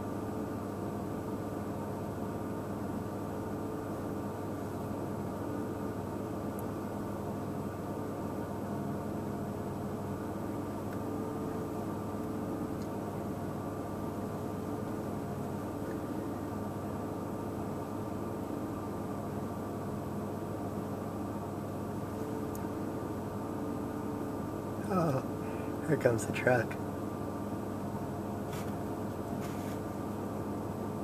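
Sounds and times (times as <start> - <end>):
mechanical hum with held tones: 0.0 - 31.0.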